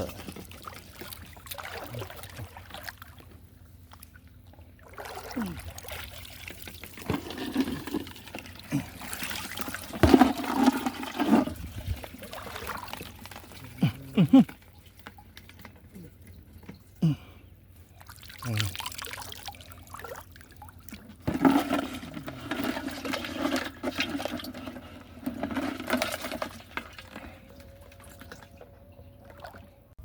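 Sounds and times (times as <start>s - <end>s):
water sloshing and splashing: 0.0s - 30.0s.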